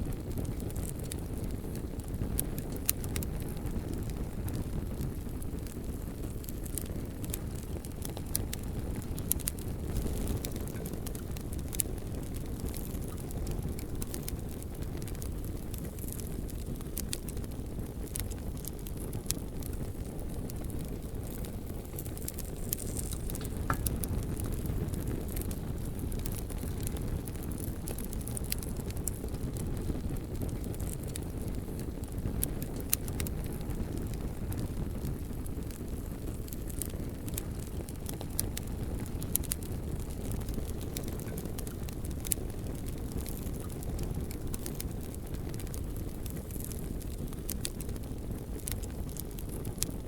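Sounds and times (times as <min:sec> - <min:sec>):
logs crackling and popping: 0:00.0 - 0:50.0
low rumble of flames: 0:00.0 - 0:50.0.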